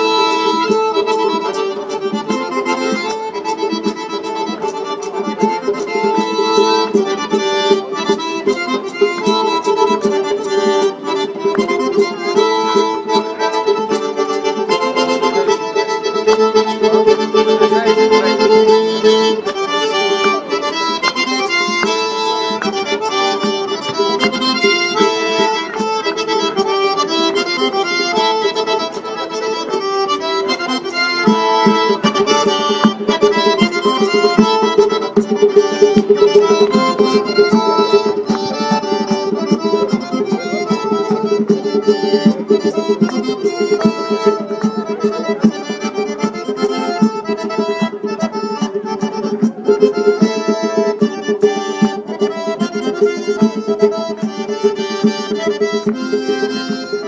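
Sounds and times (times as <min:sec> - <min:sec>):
accordion dance music: 0:00.0 - 0:57.0.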